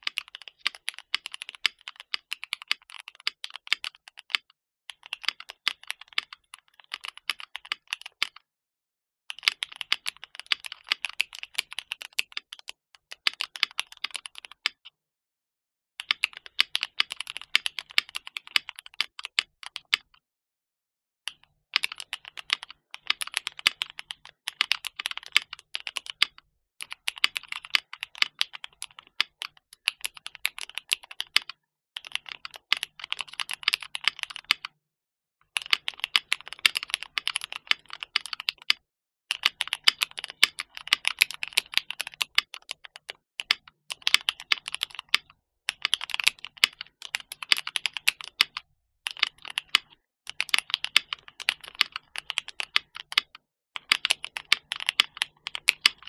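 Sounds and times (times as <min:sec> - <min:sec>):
mechanical keyboard typing: 0:00.0 - 0:08.4, 0:09.3 - 0:14.8, 0:16.0 - 0:20.2, 0:21.3 - 0:34.8, 0:35.5 - 0:56.0.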